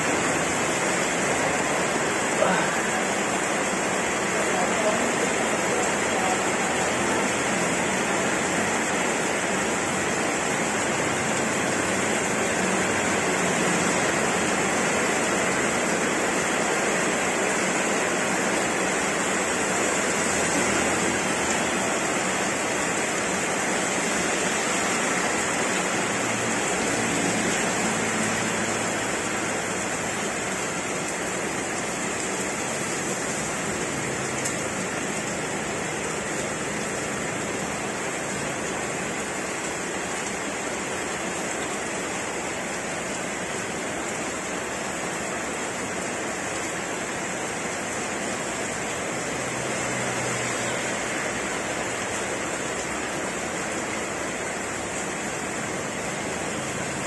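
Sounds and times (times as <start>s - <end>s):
heavy rain on wet road: 0.0s - 57.0s.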